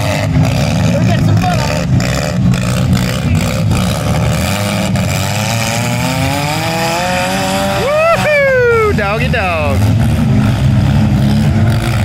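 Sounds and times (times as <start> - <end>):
car engines rumbling: 0.0 - 12.0
engine revving: 0.0 - 12.0.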